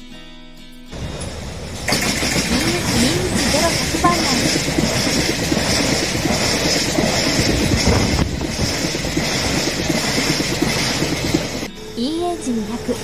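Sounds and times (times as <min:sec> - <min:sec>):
train wheels rumbling on rails: 0:00.9 - 0:13.0
wheels clattering over rail joints: 0:01.0 - 0:11.7
pulsing high hiss: 0:01.0 - 0:13.0.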